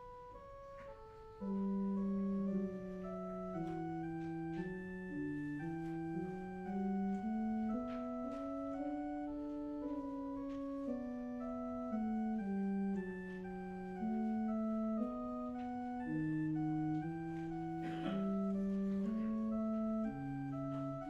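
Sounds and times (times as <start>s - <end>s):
organ playing sustained chords: 0.0s - 21.0s.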